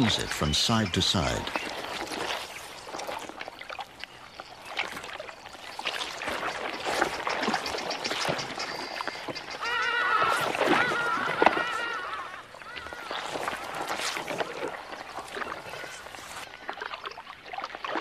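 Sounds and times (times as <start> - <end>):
mud and water sloshing: 0.0 - 18.0.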